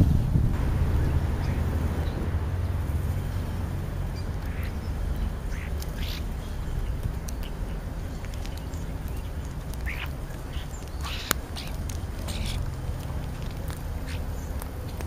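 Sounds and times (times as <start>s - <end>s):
low rumble: 0.0s - 15.0s
birds giving harsh calls: 0.6s - 15.0s.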